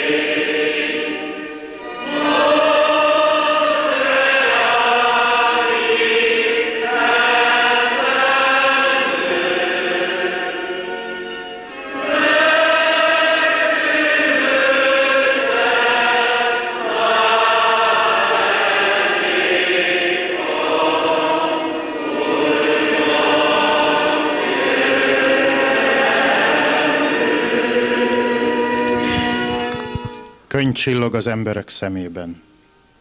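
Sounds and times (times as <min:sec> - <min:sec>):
choir singing a slow chant: 0:00.0 - 0:29.6.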